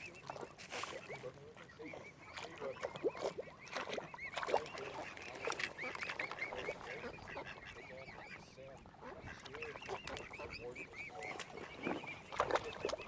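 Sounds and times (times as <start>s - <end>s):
waterfowl honking and quacking: 0.0s - 13.0s.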